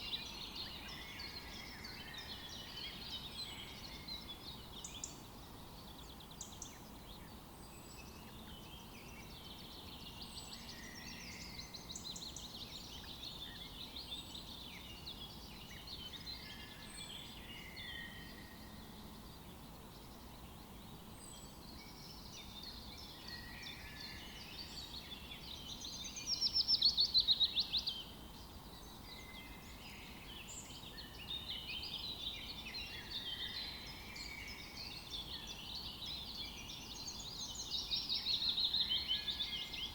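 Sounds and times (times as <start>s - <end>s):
wild birds chirping and singing: 0.0s - 39.9s.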